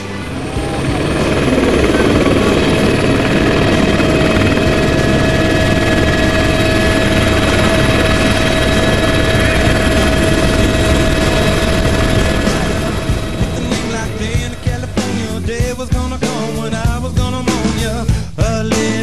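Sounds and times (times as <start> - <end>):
rotor and air noise: 0.0 - 18.4
helicopter turbine whine: 0.0 - 19.0.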